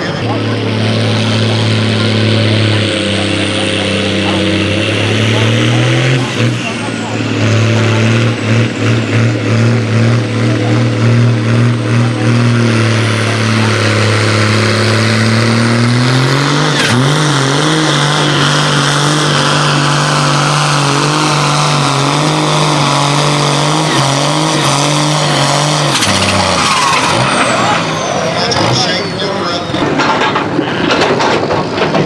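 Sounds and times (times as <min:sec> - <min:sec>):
engine revving hard: 0:00.0 - 0:32.0.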